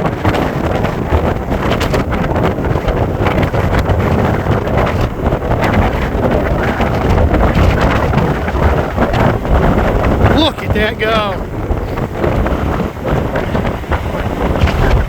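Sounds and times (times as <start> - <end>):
storm wind buffeting microphone: 0.0 - 15.0
surf: 0.0 - 15.0.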